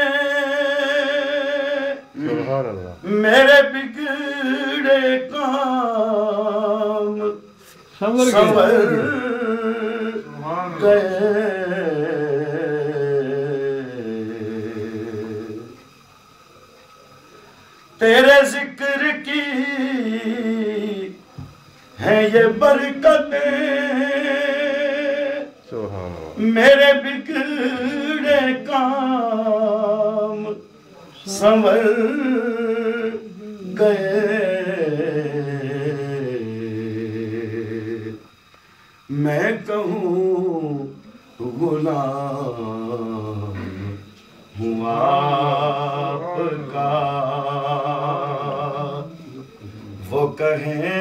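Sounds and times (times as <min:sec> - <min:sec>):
man reciting melismatic chant: 0:00.0 - 0:15.8, 0:18.0 - 0:21.2, 0:22.0 - 0:38.3, 0:39.0 - 0:51.0
man singing unaccompanied: 0:00.0 - 0:16.0, 0:17.9 - 0:51.0.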